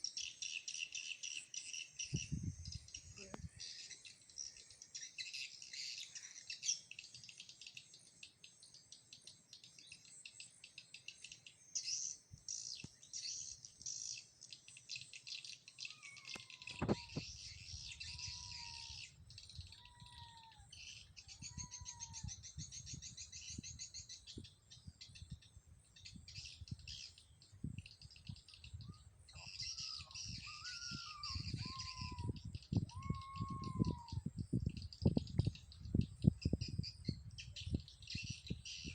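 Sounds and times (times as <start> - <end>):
rapid high bird twittering: 0.0 - 38.9.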